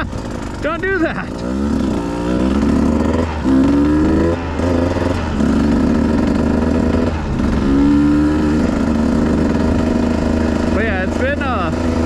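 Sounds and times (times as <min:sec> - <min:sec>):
dirt bike engine accelerating: 0:00.0 - 0:12.0.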